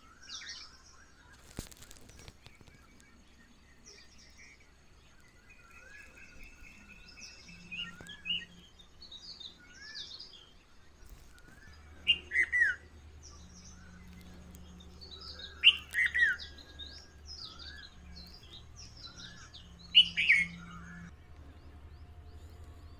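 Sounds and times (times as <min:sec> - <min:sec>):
birds singing and calling: 0:00.0 - 0:22.9
faint low hum: 0:00.0 - 0:22.9
loud bird song phrase: 0:00.0 - 0:22.9.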